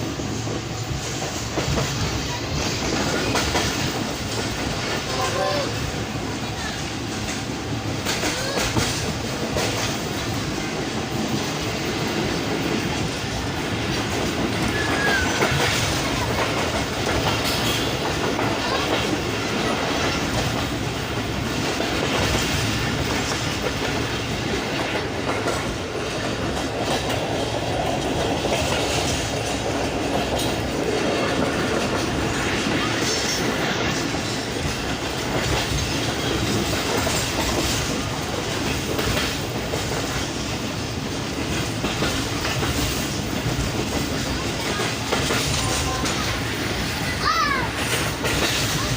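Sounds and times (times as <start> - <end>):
clickety-clack over rail joints: 0.0 - 48.9
train wheels rumbling on rails: 0.0 - 48.9.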